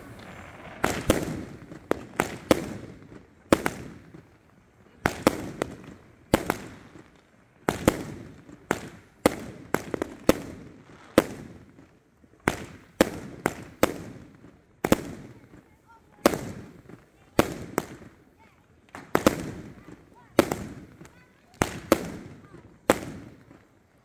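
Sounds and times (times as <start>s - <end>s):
fireworks shots and bursts: 0.0s - 24.0s.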